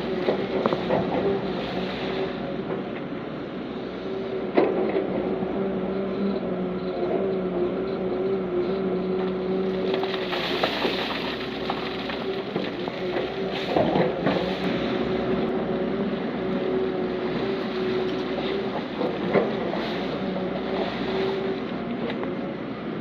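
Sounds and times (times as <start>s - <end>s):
diesel machinery engine hum: 0.0s - 23.0s.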